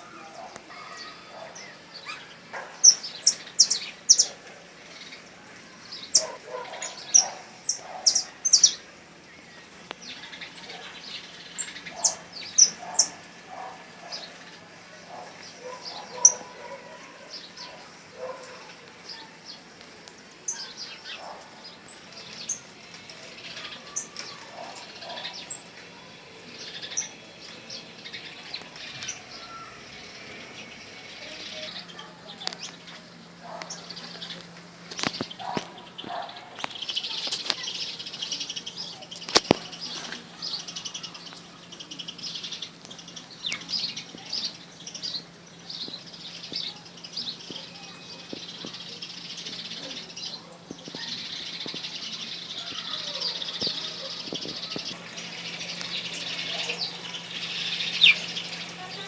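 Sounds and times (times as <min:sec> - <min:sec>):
small birds chirping: 0:00.0 - 0:59.0
steady low hum: 0:10.6 - 0:59.0.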